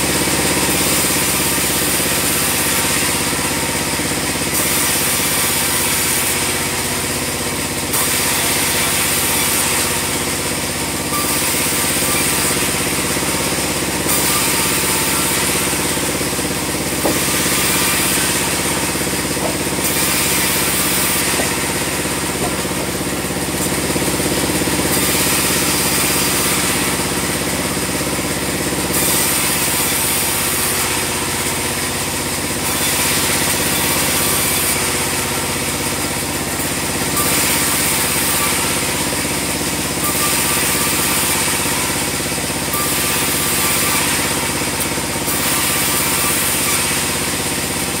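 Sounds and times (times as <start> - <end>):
bandsaw sawmill humming: 0.0 - 48.0.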